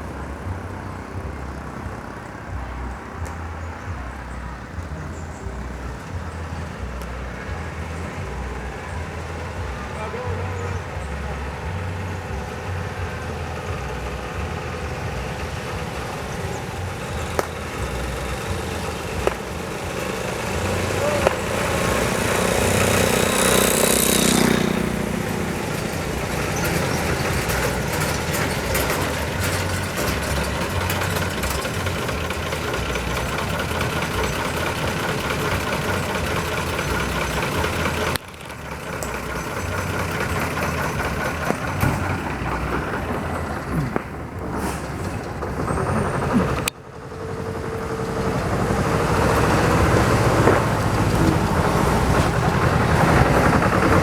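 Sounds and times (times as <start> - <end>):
engine running: 0.0 - 54.0
people's voices: 0.0 - 54.0
vehicle passing: 0.0 - 54.0.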